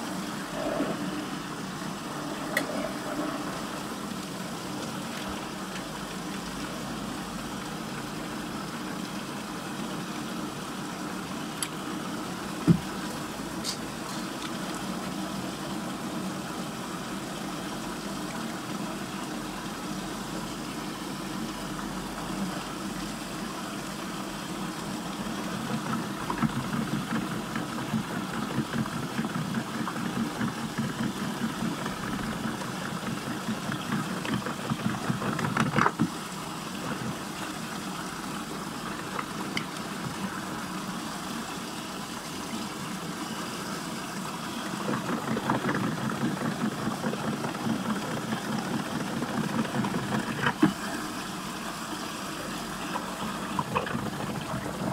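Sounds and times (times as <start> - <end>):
water whirlpool gurgling: 0.0 - 54.9.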